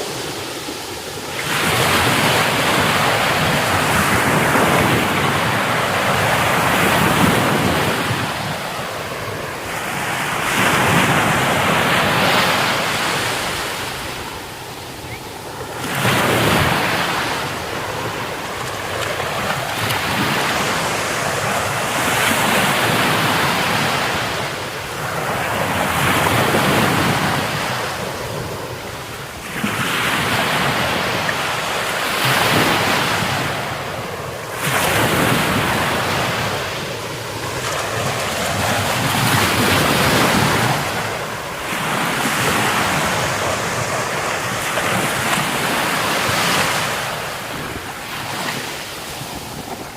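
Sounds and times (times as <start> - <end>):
surf breaking on a beach: 0.0 - 49.9.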